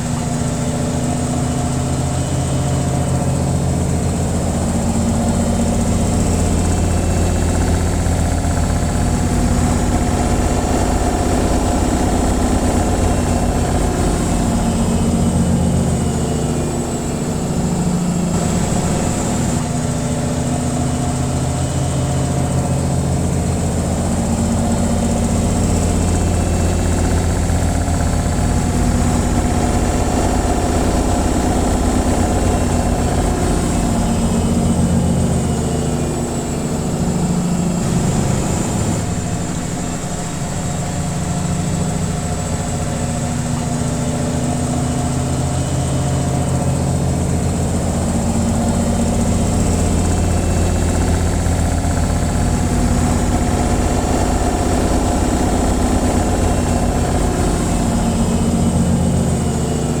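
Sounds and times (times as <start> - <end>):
washing machine spinning: 0.0 - 60.0.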